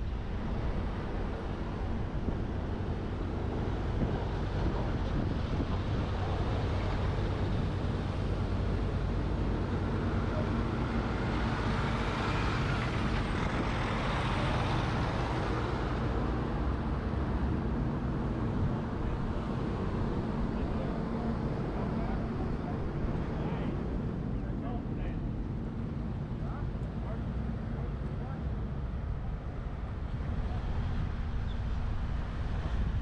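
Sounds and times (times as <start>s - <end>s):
moving truck road noise: 0.0s - 33.0s.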